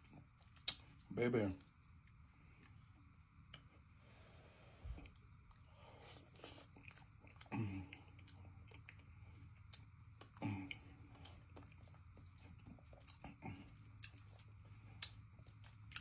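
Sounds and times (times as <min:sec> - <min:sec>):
chewing pasta: 0:00.0 - 0:03.9, 0:04.9 - 0:16.0.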